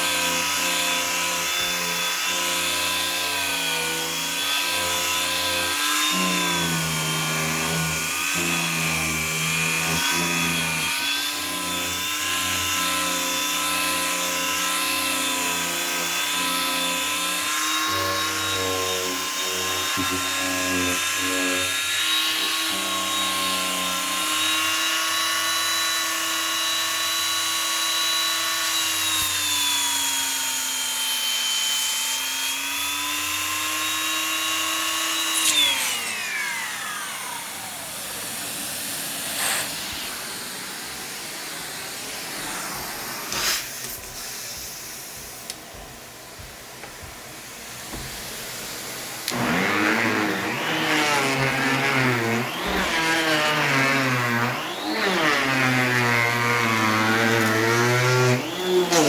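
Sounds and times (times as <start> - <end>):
vacuum motor whining: 0.0 - 30.7, 32.5 - 38.5, 47.0 - 59.0.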